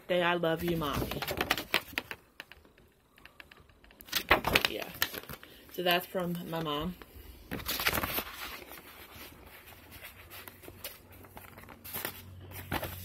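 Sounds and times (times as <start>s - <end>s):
paper cards rustling: 0.5s - 13.0s.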